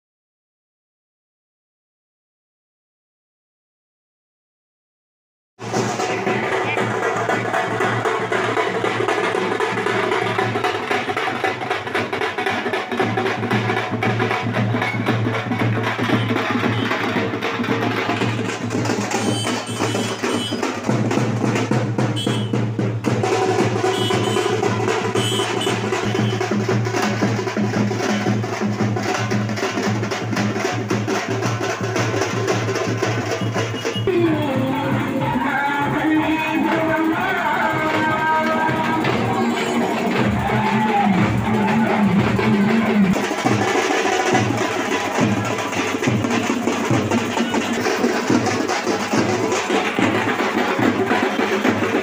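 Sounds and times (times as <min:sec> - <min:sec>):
drums in fast rhythm: 0:05.6 - 0:52.0.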